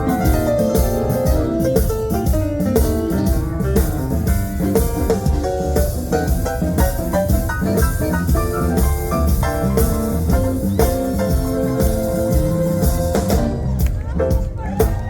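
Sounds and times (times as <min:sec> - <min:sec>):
drum kit and cymbals: 0:00.0 - 0:15.0
guitar: 0:00.0 - 0:15.0
live blues band playing: 0:00.0 - 0:15.0.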